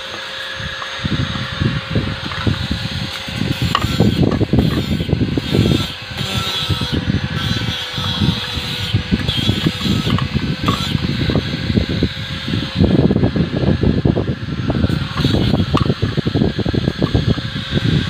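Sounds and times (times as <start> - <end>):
wind buffeting microphone: 0.5 - 18.0.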